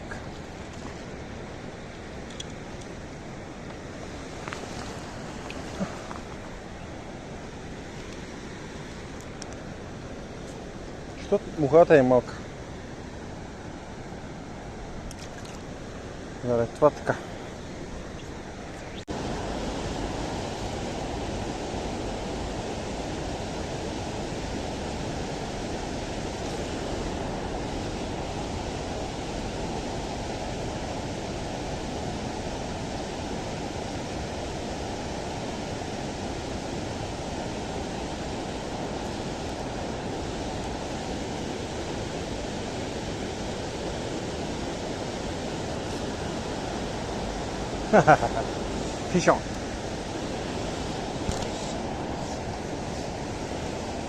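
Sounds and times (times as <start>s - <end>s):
fast river rushing: 0.0s - 54.0s.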